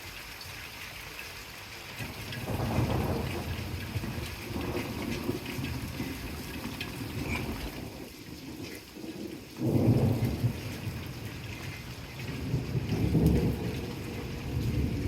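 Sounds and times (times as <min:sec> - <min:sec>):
rain falling: 0:00.0 - 0:15.0
rolling thunder: 0:02.1 - 0:15.0
thunder clap: 0:02.4 - 0:15.0.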